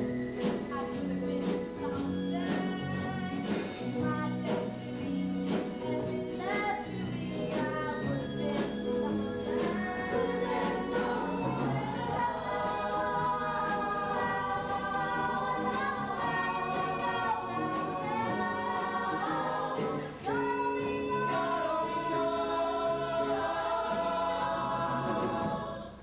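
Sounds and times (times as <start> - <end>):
chorus singing: 0.0 - 26.0.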